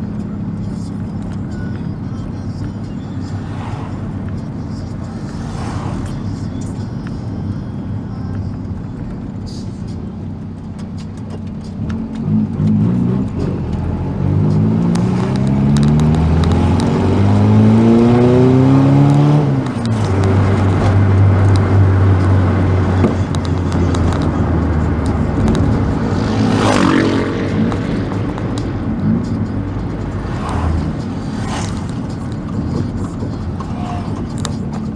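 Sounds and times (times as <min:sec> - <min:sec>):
car engine and loud exhaust: 0:00.0 - 0:34.9.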